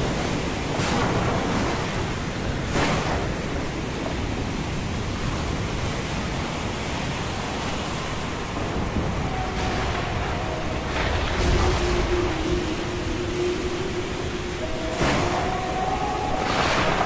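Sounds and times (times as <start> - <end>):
surf: 0.0 - 17.0
wind: 0.0 - 17.0.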